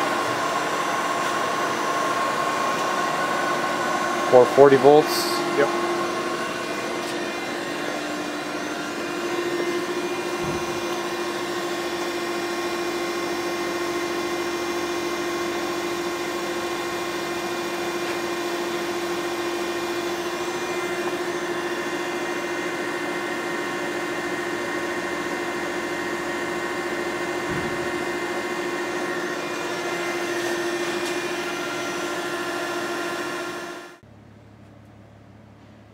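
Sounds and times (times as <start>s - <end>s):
surface grinder whirring: 0.0s - 34.0s.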